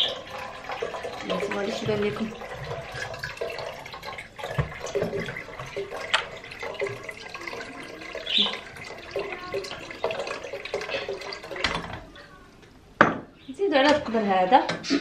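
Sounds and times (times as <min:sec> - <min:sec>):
water pouring into pot: 0:00.0 - 0:12.3.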